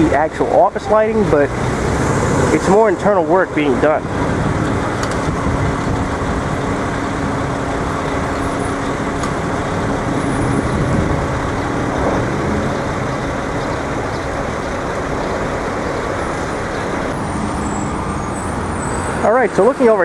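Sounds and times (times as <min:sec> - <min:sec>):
engine hum: 0:00.0 - 0:20.0
passing road vehicles: 0:00.0 - 0:20.0.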